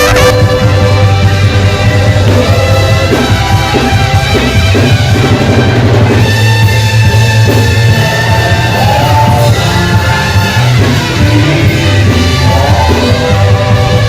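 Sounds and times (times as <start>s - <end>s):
heavy steady bass: 0.0s - 14.0s
worship band playing: 0.0s - 14.0s.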